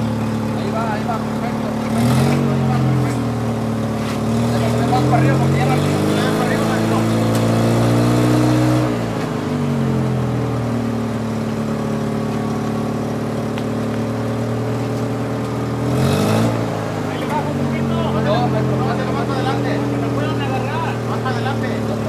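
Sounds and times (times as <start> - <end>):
heavy vehicle engine revving: 0.0 - 22.0.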